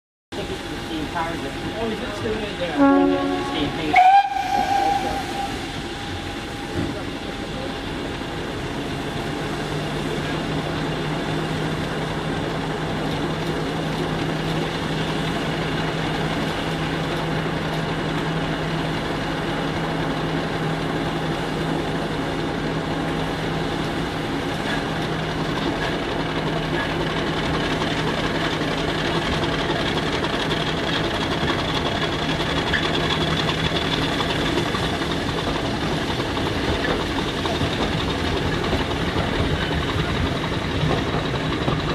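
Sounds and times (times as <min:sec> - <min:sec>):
diesel locomotive engine: 0:00.3 - 0:41.9.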